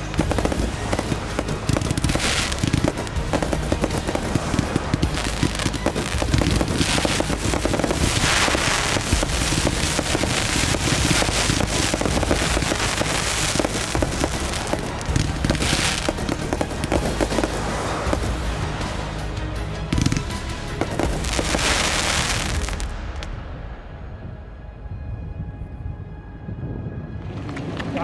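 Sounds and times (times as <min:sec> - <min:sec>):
fireworks crackling and popping: 0:00.0 - 0:23.8.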